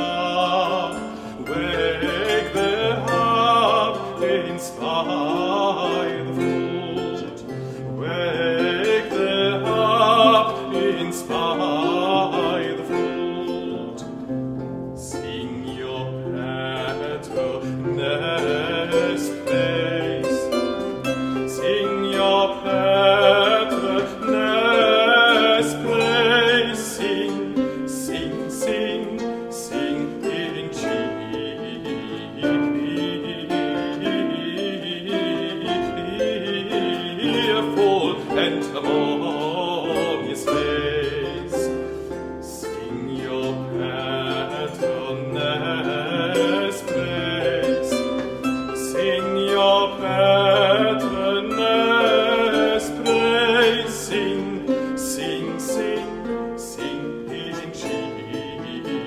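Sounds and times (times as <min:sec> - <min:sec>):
man singing with vibrato: 0:00.0 - 0:59.0
plucked harp and lute: 0:00.0 - 0:59.0.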